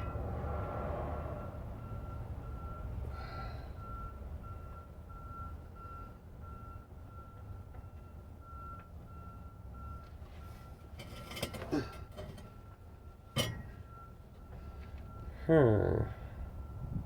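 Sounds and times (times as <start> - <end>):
vehicle reversing alarm beeping: 0.0 - 17.0.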